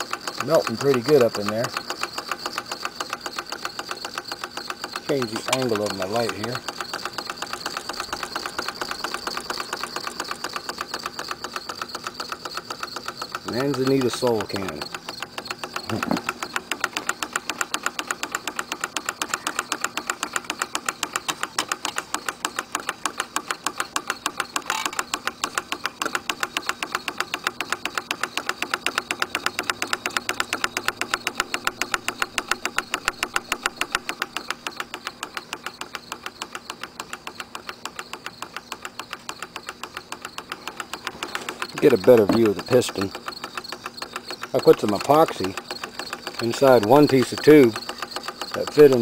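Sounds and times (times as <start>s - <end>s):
small engine linkage ticking: 0.0s - 49.0s.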